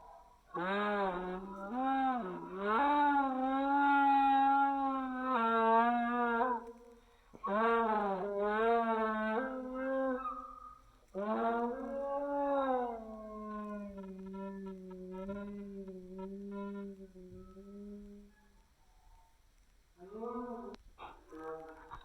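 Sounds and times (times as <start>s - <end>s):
animal howling: 0.0s - 19.3s.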